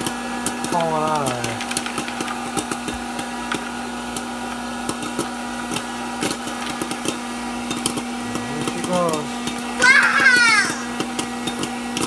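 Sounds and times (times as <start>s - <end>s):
popcorn kernels popping: 0.0s - 12.0s
popcorn popper fan hum: 0.0s - 12.0s.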